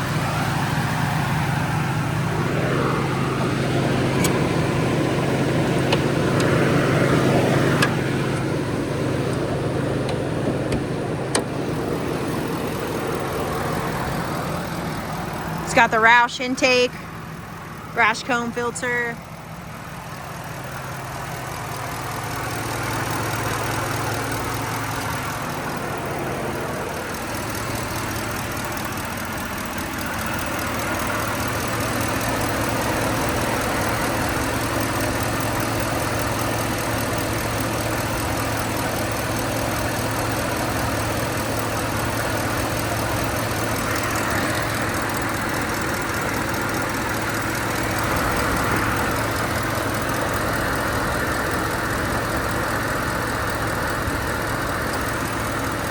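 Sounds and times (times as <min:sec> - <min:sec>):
truck engine idling: 0:00.0 - 0:55.9.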